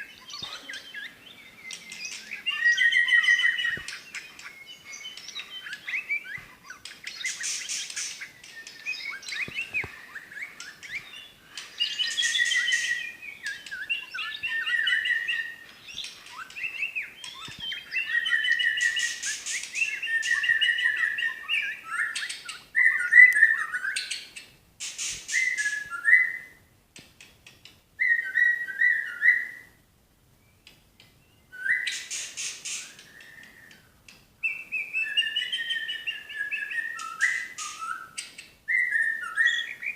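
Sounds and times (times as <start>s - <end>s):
songbird singing whistled phrases: 0.0s - 26.6s, 28.0s - 29.8s, 30.4s - 39.9s.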